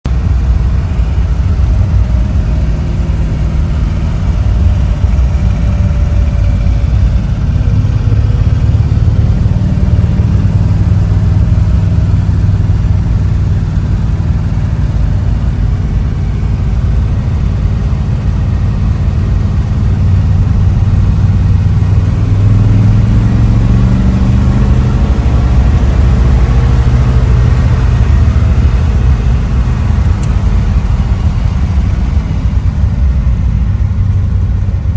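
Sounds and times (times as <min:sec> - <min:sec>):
old car engine running: 0:00.1 - 0:34.9.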